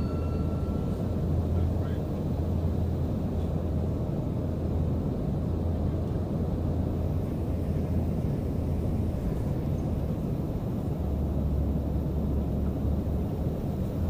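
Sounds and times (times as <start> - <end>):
airplane cabin drone: 0.0 - 14.0.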